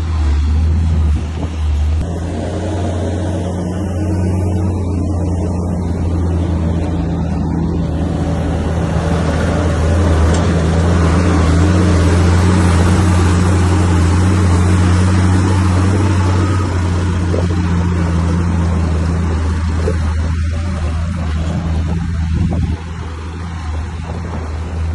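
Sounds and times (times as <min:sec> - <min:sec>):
heavy diesel engine droning: 0:00.0 - 0:24.9.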